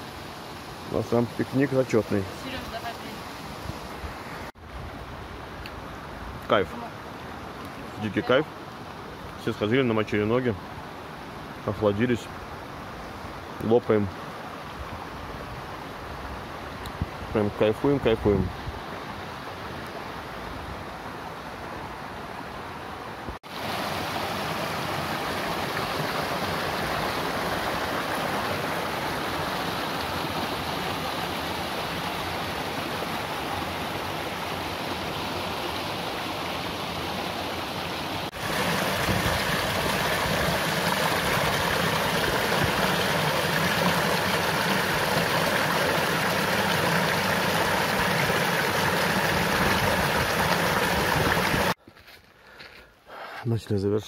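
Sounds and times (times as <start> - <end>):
stream rushing over rocks: 0.0 - 51.8.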